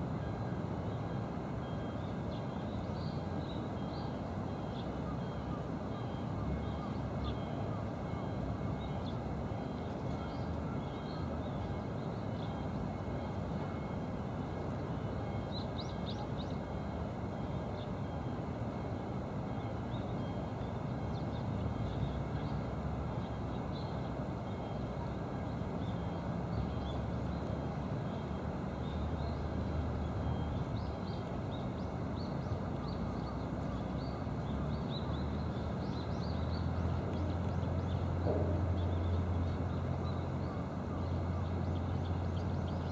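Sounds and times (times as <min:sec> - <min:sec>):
low engine-like drone: 0:00.0 - 0:42.9.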